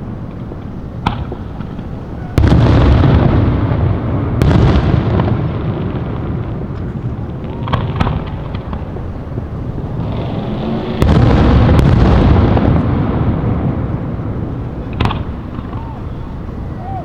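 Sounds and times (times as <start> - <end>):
fireworks crackling pops: 0.0 - 16.6
fireworks rumbling booms: 0.0 - 17.0
heavy firework boom: 0.0 - 17.0.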